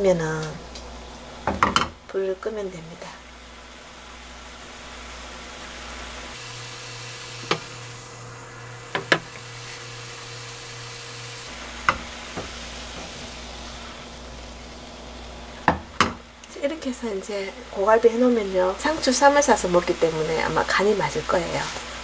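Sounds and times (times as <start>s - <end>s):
glaze bubbling and sizzling in a pan: 0.3s - 22.0s.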